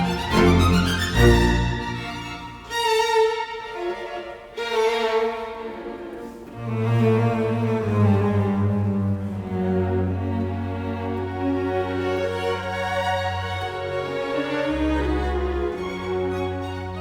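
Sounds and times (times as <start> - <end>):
bowed strings melody: 0.0 - 17.0.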